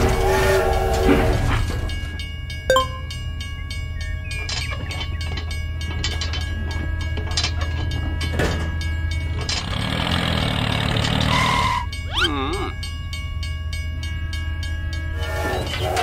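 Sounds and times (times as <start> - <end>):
train clattering on rails: 0.0 - 2.7, 3.8 - 12.1, 13.8 - 16.0.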